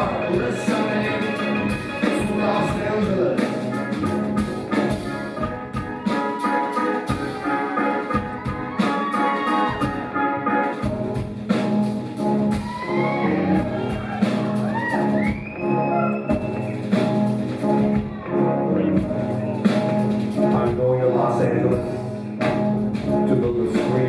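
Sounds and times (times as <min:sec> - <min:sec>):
live band playing instrumental: 0:00.0 - 0:24.0.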